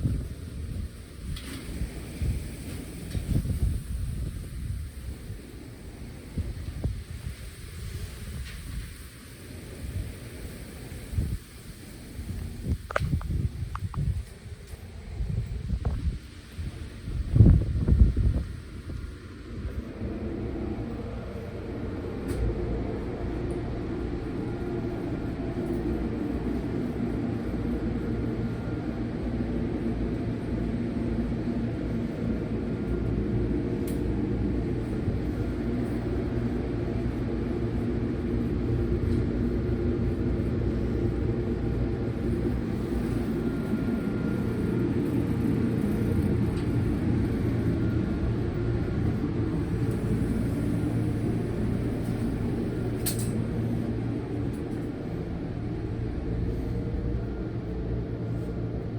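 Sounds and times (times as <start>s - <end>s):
electric train rumbling: 0.0s - 58.9s.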